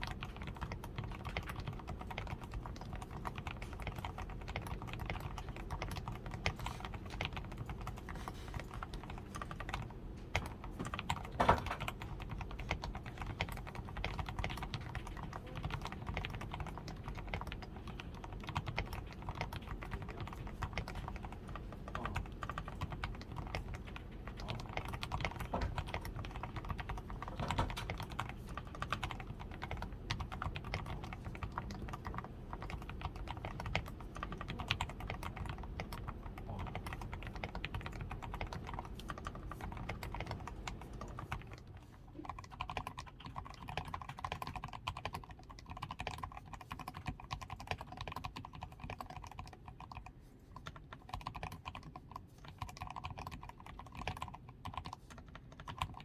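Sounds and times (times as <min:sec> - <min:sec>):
fast typing on mechanical keyboard: 0:00.0 - 0:56.0.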